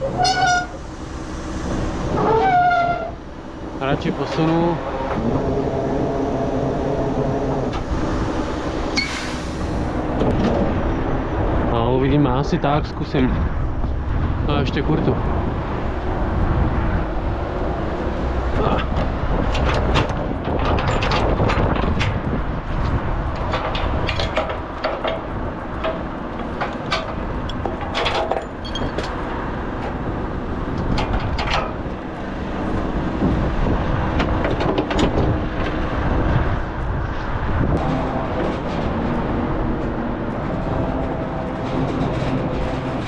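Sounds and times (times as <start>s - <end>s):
low engine rumble: 0.0s - 43.0s.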